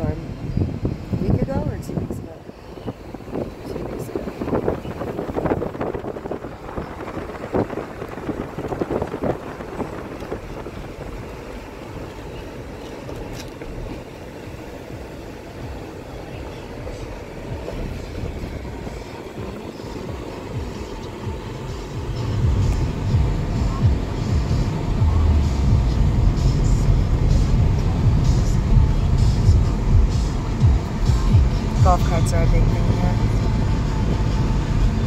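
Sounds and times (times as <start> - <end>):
car cabin rumble: 0.0 - 35.0.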